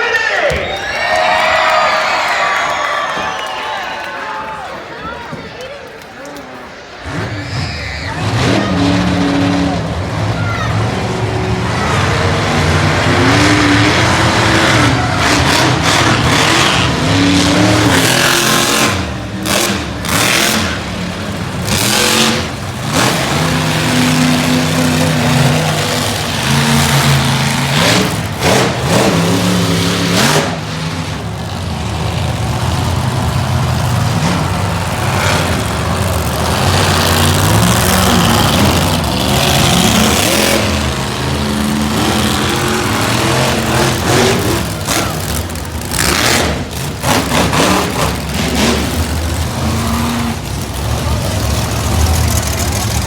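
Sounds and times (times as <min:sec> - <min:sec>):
monster truck engines revving: 0:00.0 - 0:53.0.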